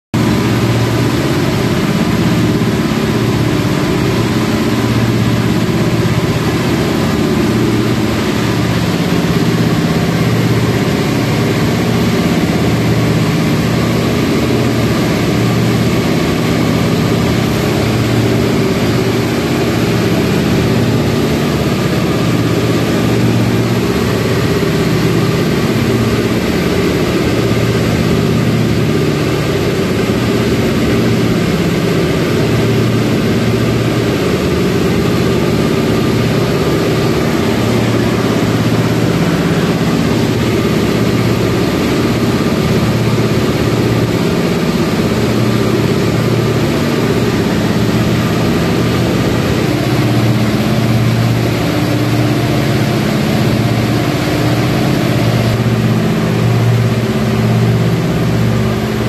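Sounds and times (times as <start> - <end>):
electric locomotive hum: 0.2 - 59.0.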